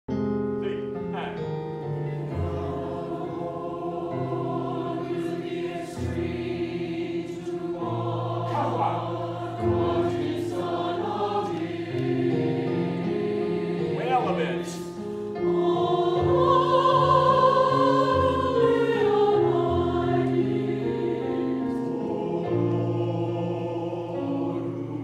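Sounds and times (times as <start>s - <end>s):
mixed choir singing: 1.2s - 25.0s.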